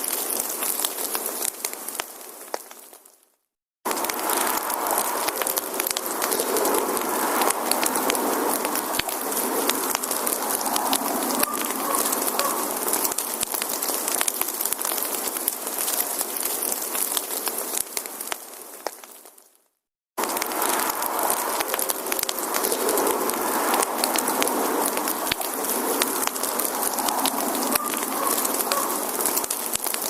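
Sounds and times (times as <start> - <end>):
soft hiss of fire: 0.0 - 3.3, 3.9 - 19.6, 20.2 - 30.0
fire crackling: 0.0 - 30.0.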